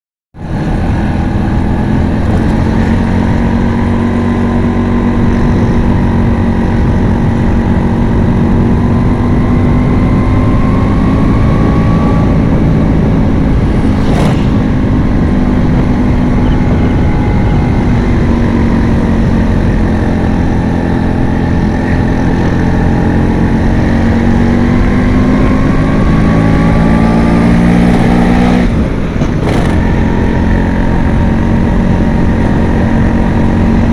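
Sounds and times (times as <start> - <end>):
scooter engine running: 0.4 - 27.4, 28.6 - 33.9.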